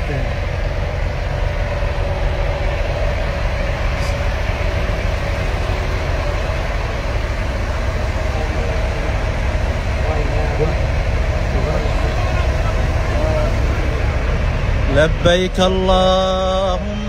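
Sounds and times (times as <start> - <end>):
bus engines idling: 0.0 - 17.0.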